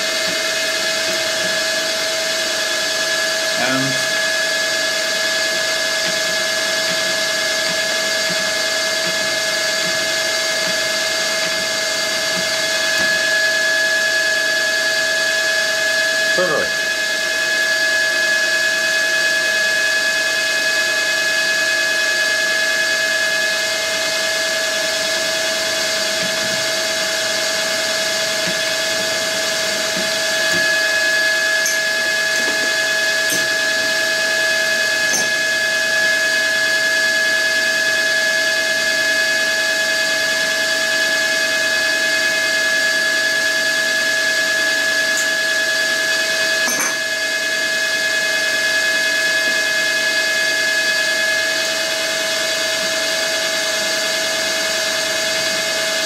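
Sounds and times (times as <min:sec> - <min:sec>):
milling machine spindle whine: 0:00.0 - 0:56.0.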